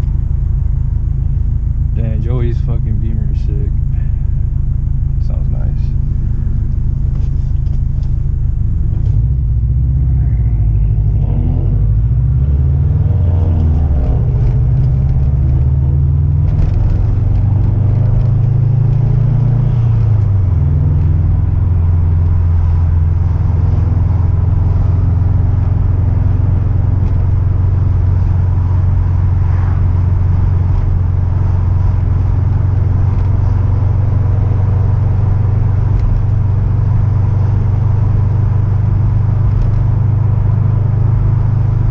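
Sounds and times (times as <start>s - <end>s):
car engine rumbling: 0.0s - 41.9s.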